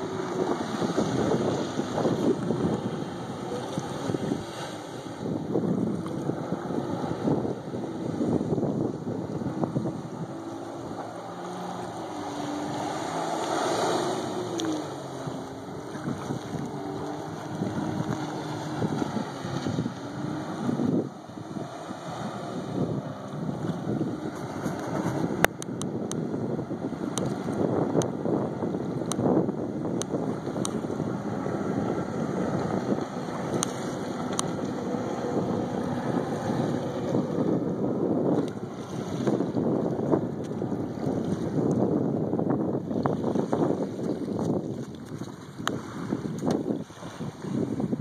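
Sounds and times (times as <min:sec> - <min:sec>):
distant jet ski running: 0:00.0 - 0:48.0
watercraft engine at speed: 0:00.0 - 0:48.0
wind buffeting microphone: 0:00.0 - 0:48.0.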